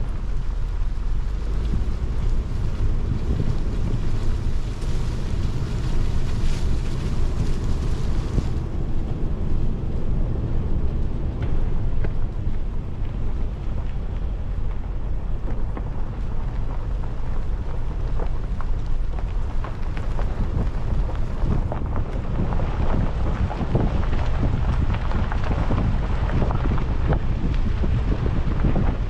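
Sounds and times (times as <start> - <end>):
crackling and rustling: 0.0 - 29.0
wind rumbling on microphone: 0.0 - 29.0.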